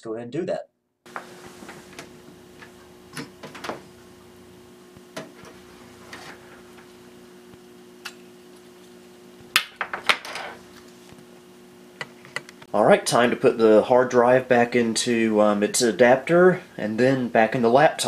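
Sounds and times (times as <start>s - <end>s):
desktop computer hum: 1.1s - 17.9s.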